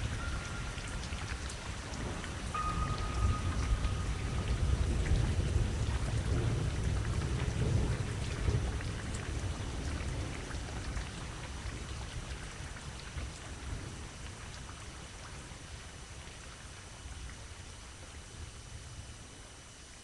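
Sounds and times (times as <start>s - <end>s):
rain-like crackling: 0.0s - 20.0s.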